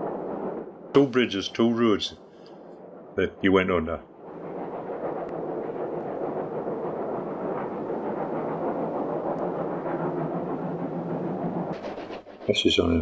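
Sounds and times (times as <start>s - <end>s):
steam train rumbling: 0.0s - 13.0s.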